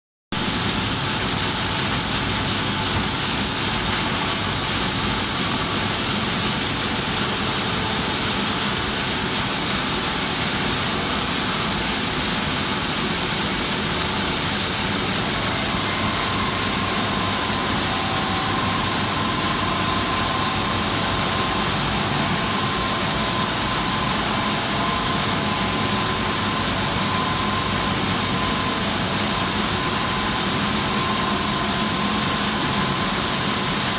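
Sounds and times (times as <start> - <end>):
printing press running: 0.4 - 33.9.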